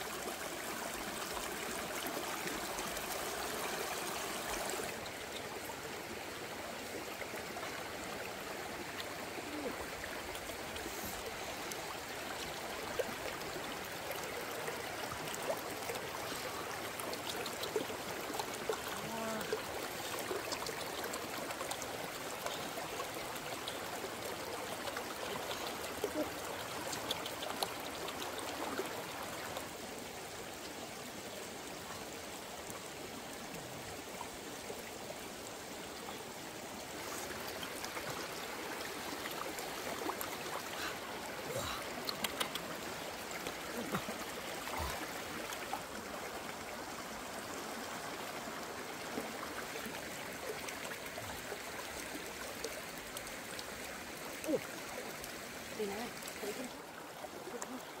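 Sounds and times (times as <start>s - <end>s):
river water running: 0.0s - 58.0s.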